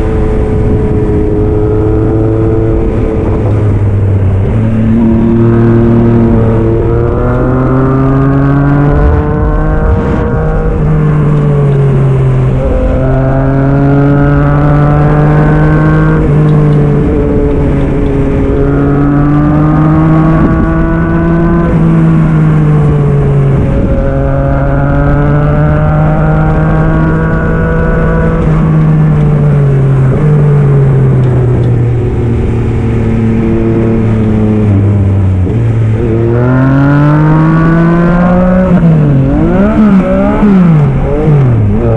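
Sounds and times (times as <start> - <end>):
gear changes: 0.0 - 41.9
motorcycle engine revving: 0.0 - 41.9.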